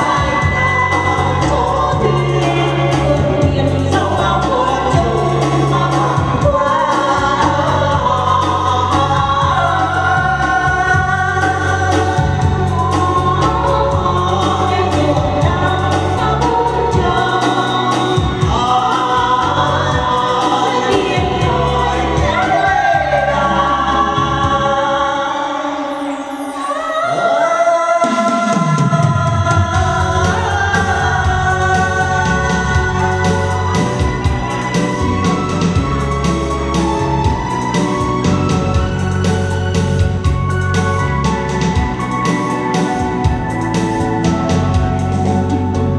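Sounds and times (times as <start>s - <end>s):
man and woman singing duet: 0.0s - 45.6s
amplified instrumental accompaniment: 0.0s - 45.9s.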